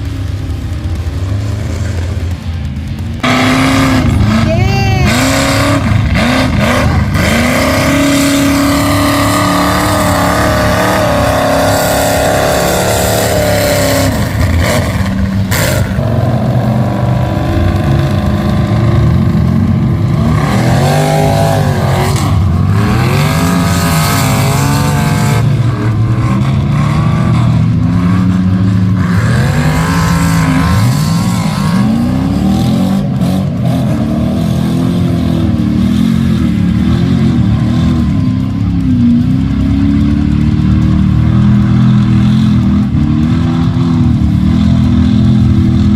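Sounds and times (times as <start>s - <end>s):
truck engine revving: 0.0s - 45.9s.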